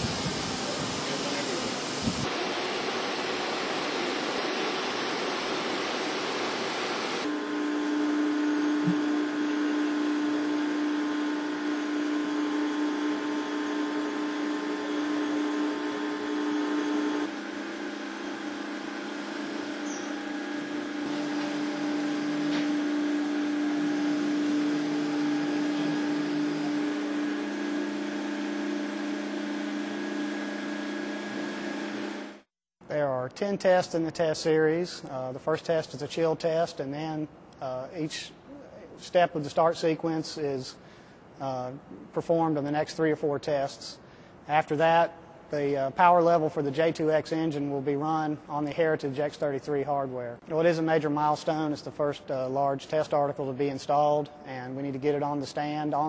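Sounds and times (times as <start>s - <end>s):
mechanical hum with held tones: 0.0s - 56.0s.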